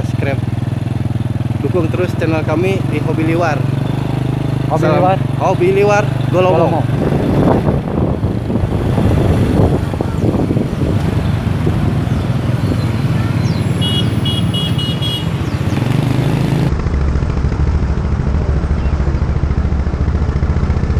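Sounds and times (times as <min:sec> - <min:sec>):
motorbikes passing: 0:00.0 - 0:20.9
motorcycle engine running: 0:00.0 - 0:20.9.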